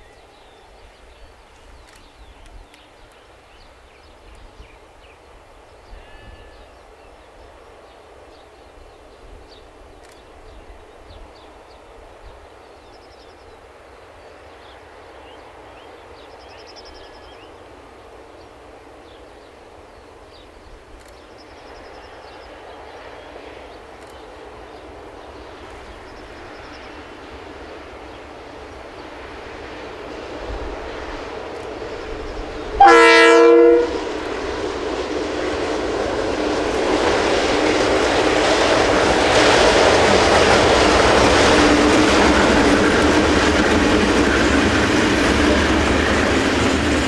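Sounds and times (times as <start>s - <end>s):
diesel locomotive engine: 0.0s - 47.0s
low wind rumble: 0.0s - 47.0s.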